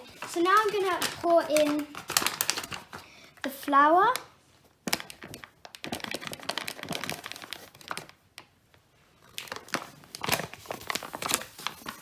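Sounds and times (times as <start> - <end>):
flour bag crinkling: 0.0 - 4.3, 4.9 - 8.5, 9.2 - 12.0.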